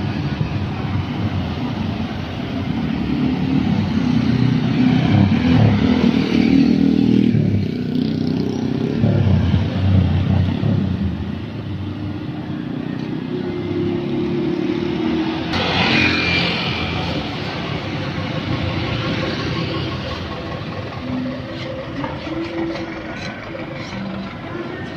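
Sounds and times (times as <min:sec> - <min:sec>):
distant traffic hum: 0:00.0 - 0:24.9
traffic passing close by: 0:00.0 - 0:24.9.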